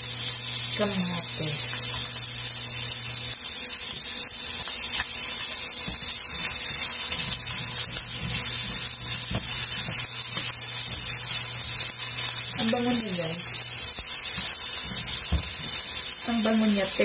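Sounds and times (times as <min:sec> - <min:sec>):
onion sizzling in a frying pan: 0:00.0 - 0:17.0.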